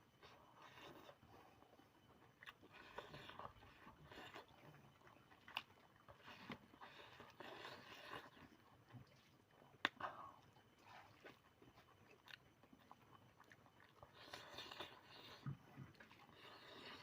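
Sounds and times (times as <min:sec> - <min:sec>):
person chewing: 0:00.2 - 0:17.0.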